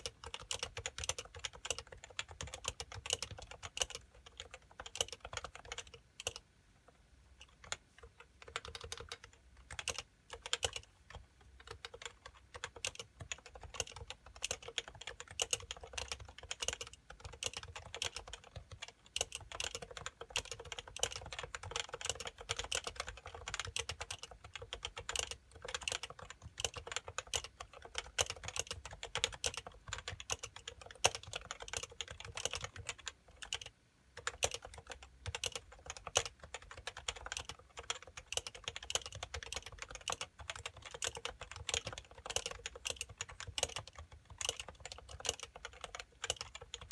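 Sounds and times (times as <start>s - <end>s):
keyboard typing: 0.0s - 46.9s.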